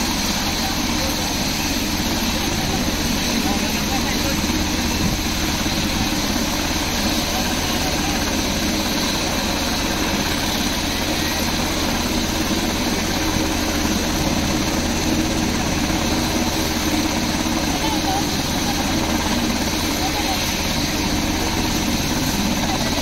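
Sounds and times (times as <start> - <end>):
helicopter idling drone: 0.0 - 23.0.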